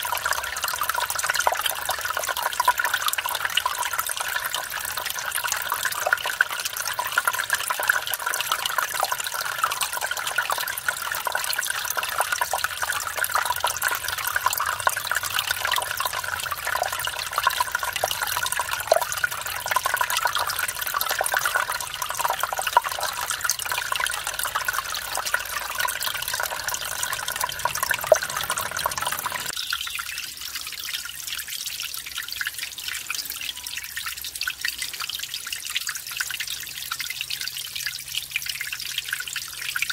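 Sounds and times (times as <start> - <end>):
stream over small waterfall: 0.0 - 39.9
water trickling and dripping: 0.0 - 39.9.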